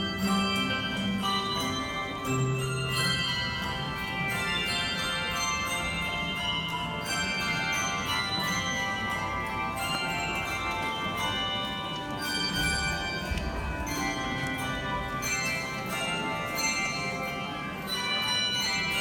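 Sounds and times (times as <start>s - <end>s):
handbells ringing: 0.0s - 19.0s.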